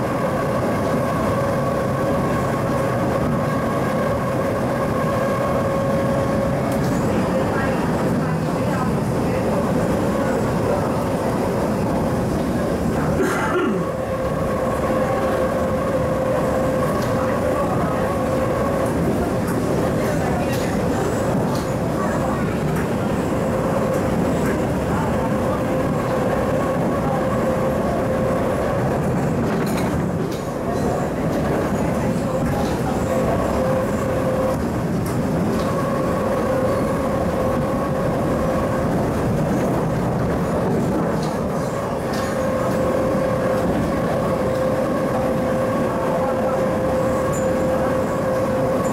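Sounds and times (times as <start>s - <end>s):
electric train running: 0.0s - 48.9s.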